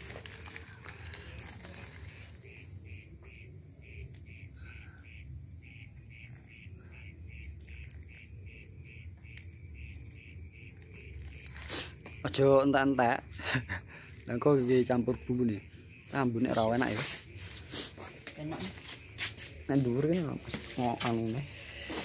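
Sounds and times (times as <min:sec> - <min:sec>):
crickets pulsing chirp: 0:00.0 - 0:22.0
high-pitched cricket trill: 0:00.0 - 0:22.0.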